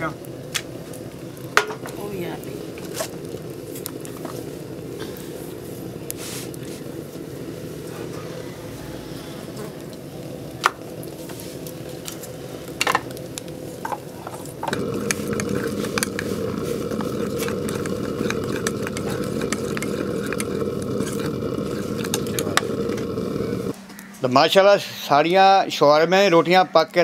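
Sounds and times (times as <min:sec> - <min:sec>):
steady hum: 0:00.0 - 0:23.9.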